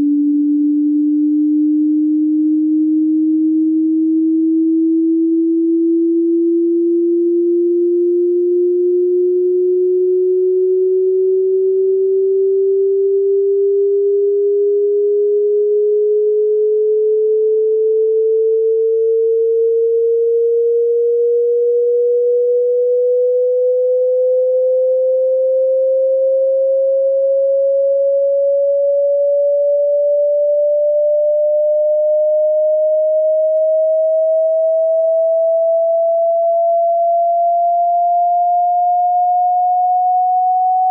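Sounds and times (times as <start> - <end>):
rising sine-wave test tone: 0.0 - 40.9.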